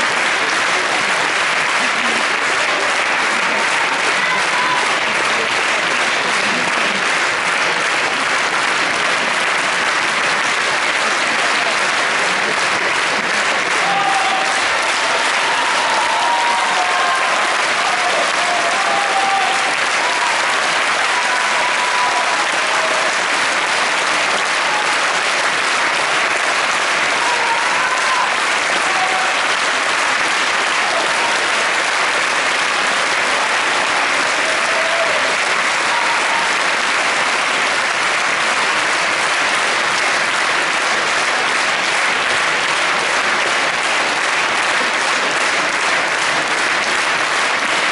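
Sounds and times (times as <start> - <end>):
audience applauding: 0.0 - 47.9
calls from crowd: 0.0 - 47.9.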